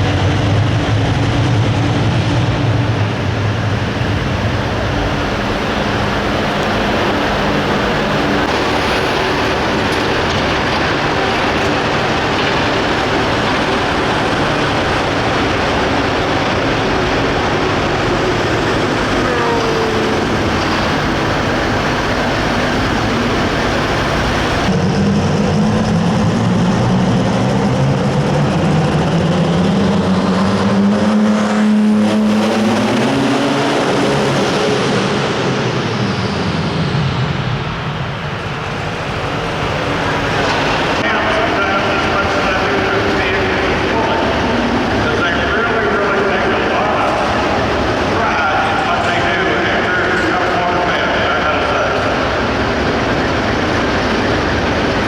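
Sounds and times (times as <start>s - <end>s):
tractor diesel engine at full throttle: 0.0s - 55.0s.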